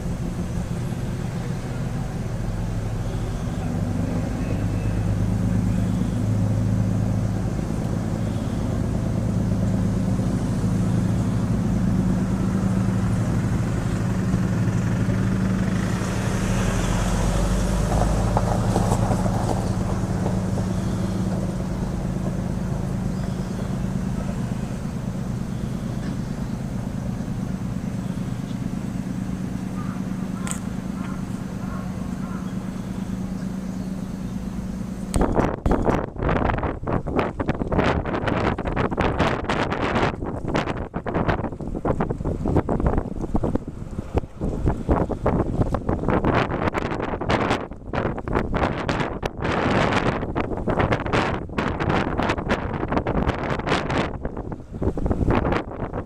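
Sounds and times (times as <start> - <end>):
boat diesel engine humming: 0.0 - 56.0.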